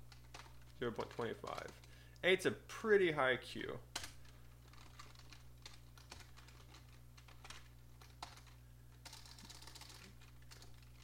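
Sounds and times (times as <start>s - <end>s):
steady low hum: 0.0s - 11.0s
computer keyboard typing: 0.1s - 1.9s, 4.0s - 11.0s.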